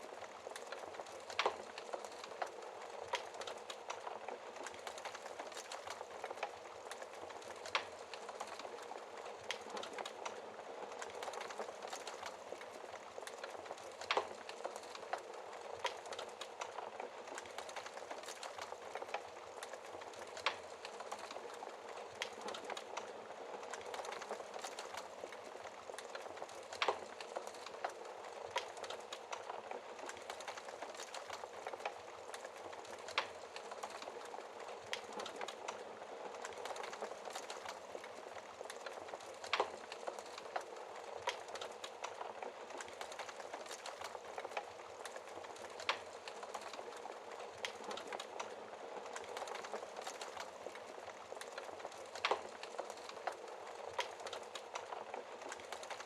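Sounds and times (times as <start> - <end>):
fire hissing and crackling: 0.0 - 56.0
fire popping: 0.0 - 56.0.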